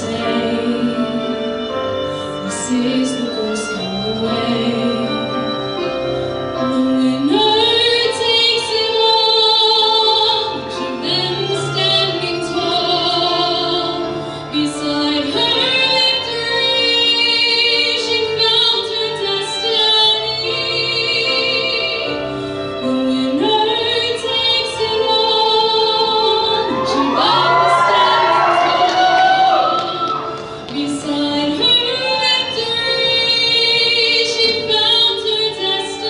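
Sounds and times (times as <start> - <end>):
woman singing a slow ballad: 0.0 - 1.8, 2.4 - 5.6, 6.6 - 30.1, 30.7 - 36.0
instrumental accompaniment: 0.0 - 36.0.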